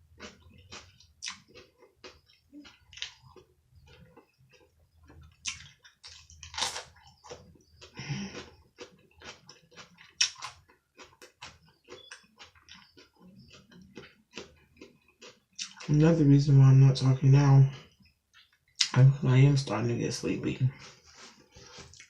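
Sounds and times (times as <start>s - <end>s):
person chewing food: 0.0s - 16.0s, 17.8s - 19.0s, 20.7s - 22.0s.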